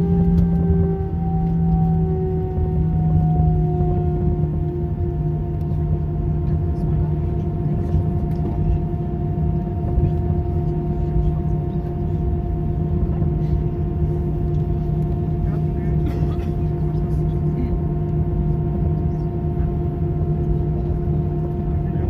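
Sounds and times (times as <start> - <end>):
jet engine whine: 0.0 - 22.0
low engine rumble: 0.0 - 22.0.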